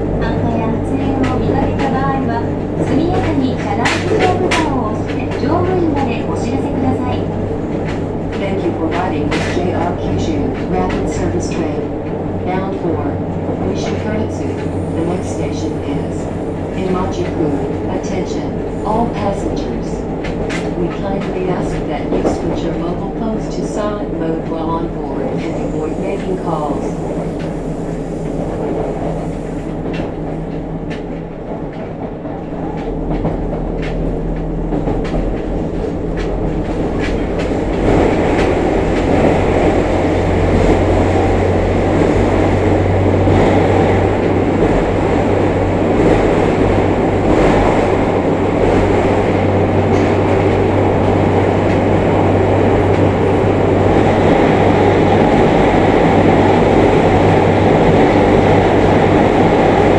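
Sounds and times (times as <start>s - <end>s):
train wheels clicking over rails: 0.0s - 59.9s.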